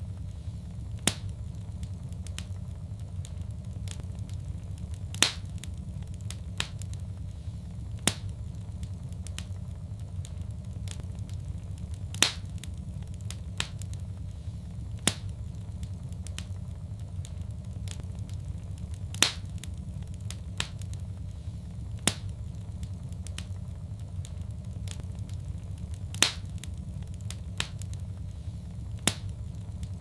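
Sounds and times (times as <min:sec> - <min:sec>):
low rumble: 0:00.0 - 0:30.0
sharp fire pops: 0:00.0 - 0:30.0
wood fire crackling: 0:00.0 - 0:30.0.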